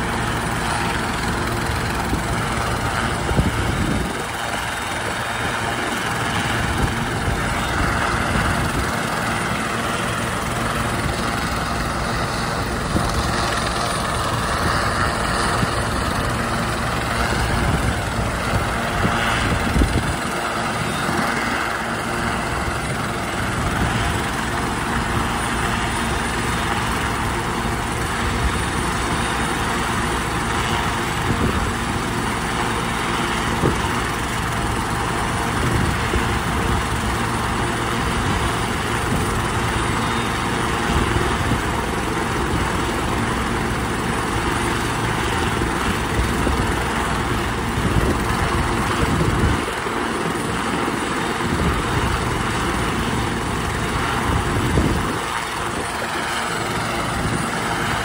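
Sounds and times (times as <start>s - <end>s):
helicopter turbine and rotors running: 0.0s - 58.0s.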